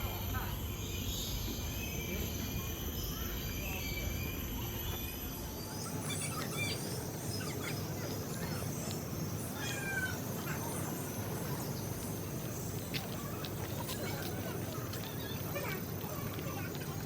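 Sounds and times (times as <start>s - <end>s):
steady background hiss: 0.0s - 17.0s
birds chirping and whistling: 0.7s - 15.4s.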